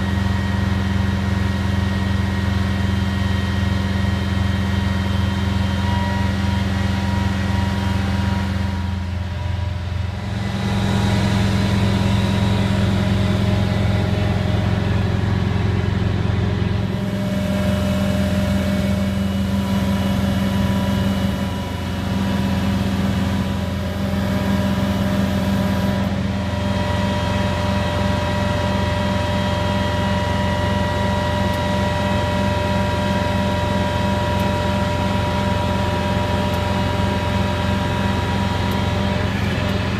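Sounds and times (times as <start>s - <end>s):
diesel engine drone: 0.0s - 39.9s
thin steady whine: 0.0s - 39.9s.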